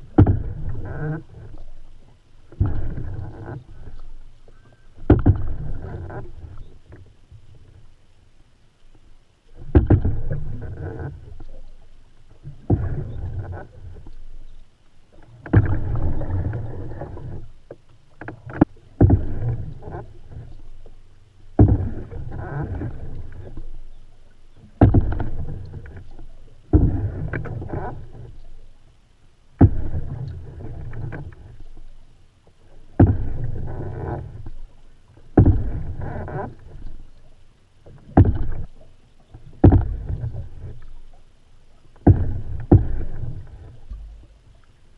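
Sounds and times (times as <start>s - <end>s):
paddle splashing in water: 0.0s - 7.9s, 8.8s - 44.9s.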